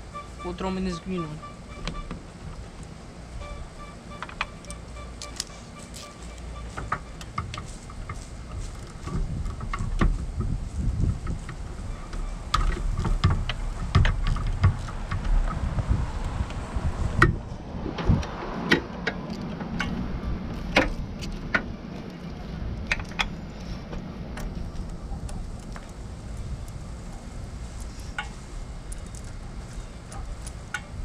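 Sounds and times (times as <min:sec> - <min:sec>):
low rumble: 0:01.1 - 0:29.6.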